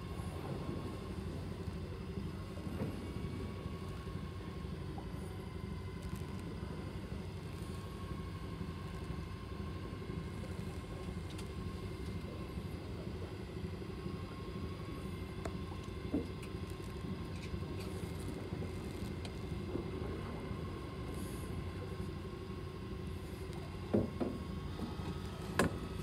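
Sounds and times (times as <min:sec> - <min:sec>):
faint steady whine: 0:00.0 - 0:26.0.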